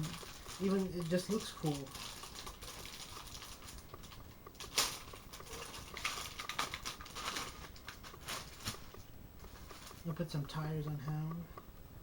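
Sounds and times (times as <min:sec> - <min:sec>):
plastic toy parts rustling and clicking: 0:00.0 - 0:10.0.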